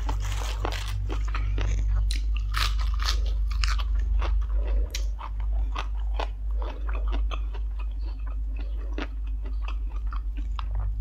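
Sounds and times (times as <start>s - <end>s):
crunchy chewing of raw vegetable: 0.0s - 11.0s
steady low hum: 0.0s - 11.0s.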